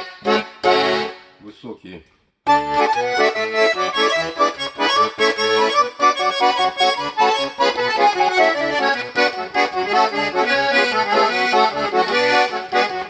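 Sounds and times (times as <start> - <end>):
button accordion playing briskly: 0.0 - 1.3, 2.5 - 13.0.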